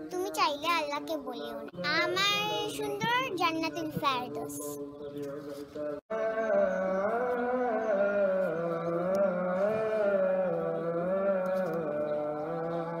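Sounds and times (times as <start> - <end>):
chant-like melody: 1.6 - 13.0.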